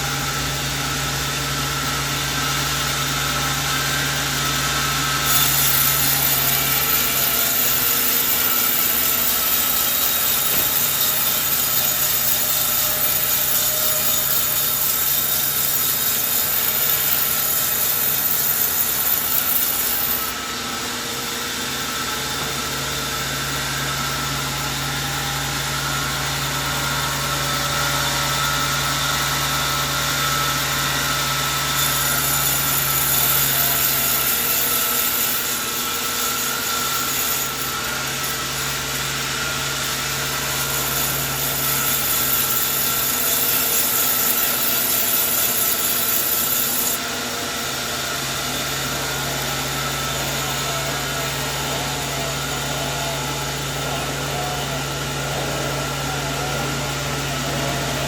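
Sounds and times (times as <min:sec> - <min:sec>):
sawmill saw cutting wood: 0:00.0 - 0:58.0.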